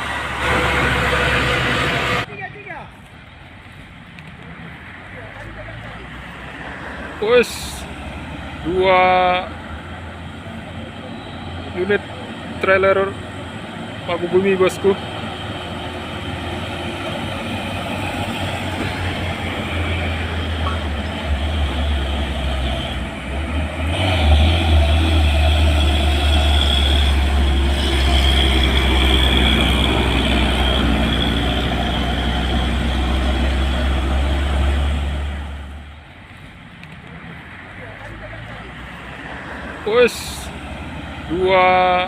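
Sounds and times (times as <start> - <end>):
diesel truck engines labouring: 0.0 - 42.0.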